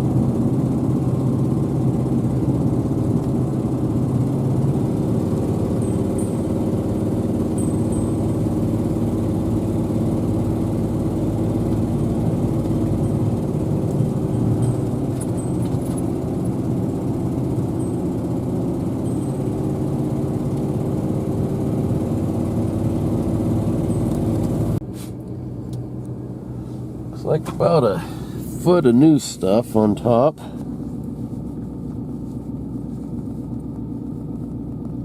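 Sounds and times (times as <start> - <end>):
low rumble: 0.0 - 29.0
engine running steadily: 0.0 - 35.0.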